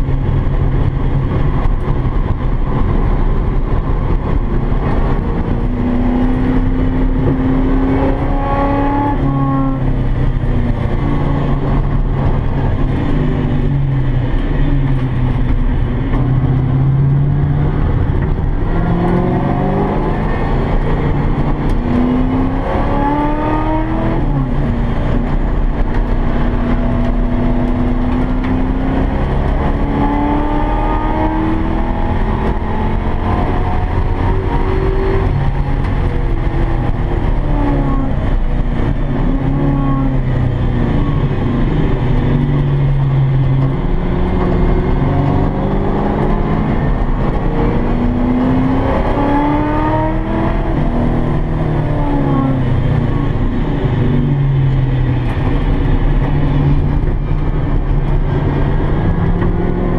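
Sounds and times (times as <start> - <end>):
car engine accelerating and shifting: 0.0 - 59.9
road and wind noise: 0.0 - 59.9.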